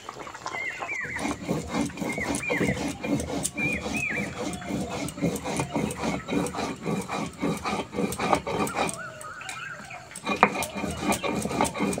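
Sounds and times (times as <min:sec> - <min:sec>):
seeds ground on stone slab: 0:00.0 - 0:12.0.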